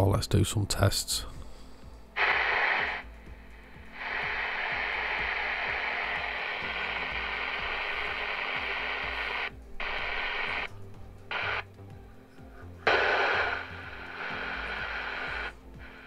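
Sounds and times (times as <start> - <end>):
radio static hiss: 2.1 - 16.0.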